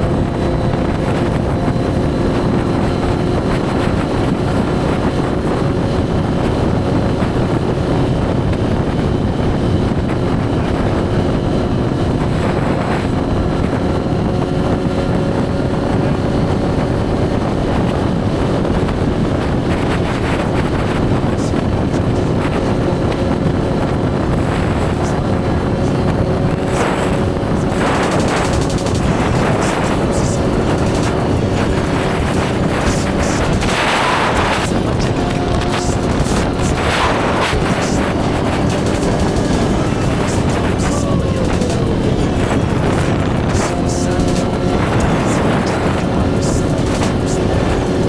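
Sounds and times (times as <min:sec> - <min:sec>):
motorcycle engine cruising: 0:00.0 - 0:48.0
wind rushing over microphone: 0:00.0 - 0:48.0.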